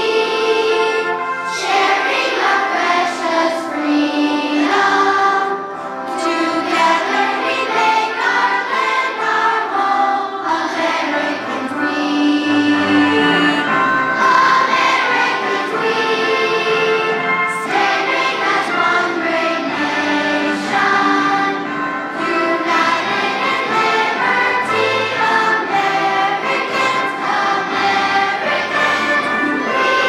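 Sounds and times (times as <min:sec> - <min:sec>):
children's choir singing: 0:00.0 - 0:30.0
instrumental accompaniment: 0:00.0 - 0:30.0.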